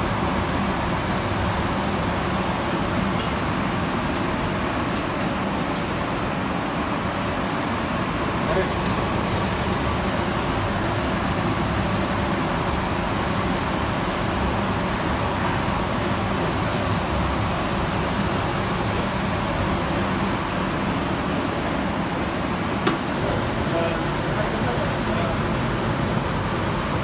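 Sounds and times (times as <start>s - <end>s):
steady rushing noise with hum: 0.0s - 27.0s.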